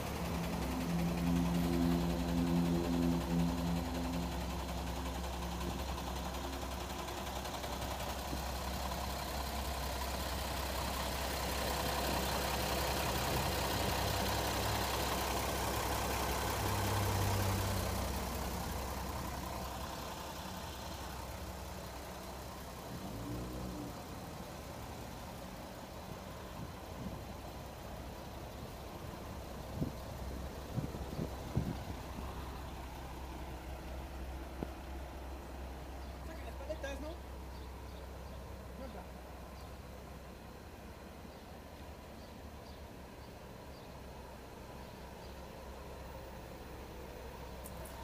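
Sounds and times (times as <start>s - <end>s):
truck diesel engine idling: 0.0s - 48.0s.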